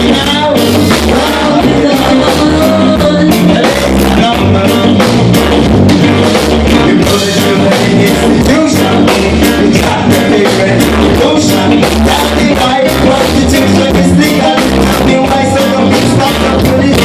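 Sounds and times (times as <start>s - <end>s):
person singing: 0.0s - 17.0s
pulsing bass line: 0.0s - 17.0s
reggae band playing: 0.0s - 17.0s.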